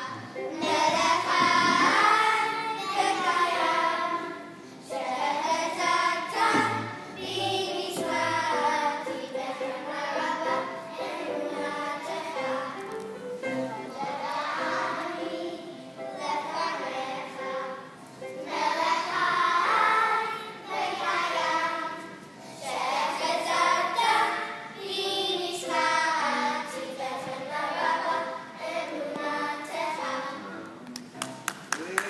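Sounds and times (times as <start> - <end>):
children singing in unison: 0.0 - 12.8, 13.4 - 30.5
background music: 0.0 - 32.0.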